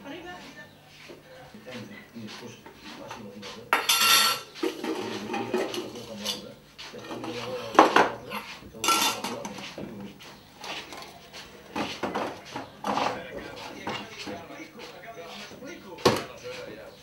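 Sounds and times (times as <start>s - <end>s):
dishes and cutlery clinking: 2.3s - 16.8s.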